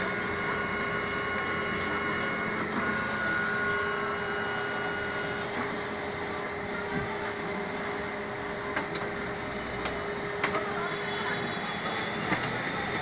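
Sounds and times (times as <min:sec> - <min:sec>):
photocopier humming: 0:00.0 - 0:13.0
photocopier whining tones: 0:00.0 - 0:13.0.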